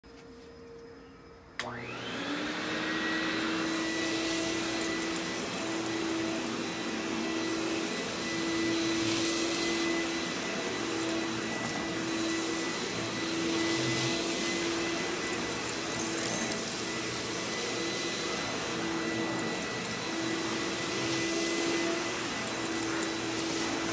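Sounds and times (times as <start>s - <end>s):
vacuum cleaner whining: 0.1s - 23.9s
floor tool on carpet: 1.6s - 23.9s.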